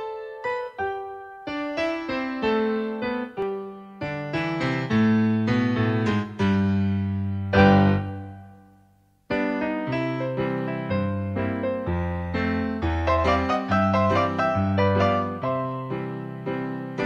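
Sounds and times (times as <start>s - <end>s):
keyboard intro music: 0.8s - 17.0s.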